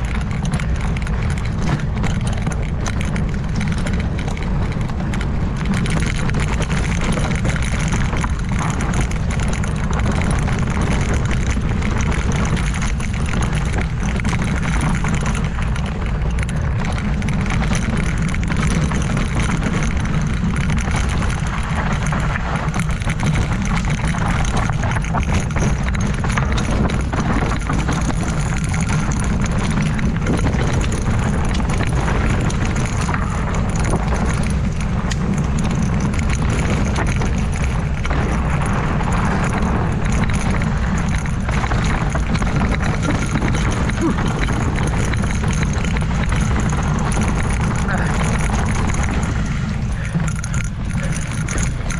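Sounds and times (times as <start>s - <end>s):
bike rattling: 0.0s - 51.9s
tyre roar on dirt: 0.0s - 51.9s
wind rush on microphone: 0.0s - 51.9s.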